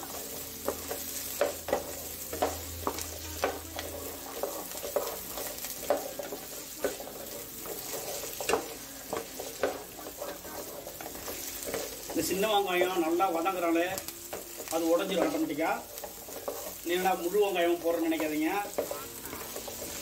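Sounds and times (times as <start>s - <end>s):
food sizzling in hot oil: 0.0s - 20.0s
spatula scraping and knocking pan: 0.0s - 20.0s.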